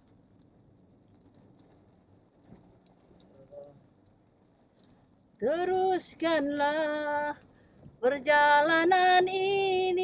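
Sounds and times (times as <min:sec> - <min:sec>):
rain on car roof: 0:00.0 - 0:10.0
road noise hum: 0:00.0 - 0:10.0.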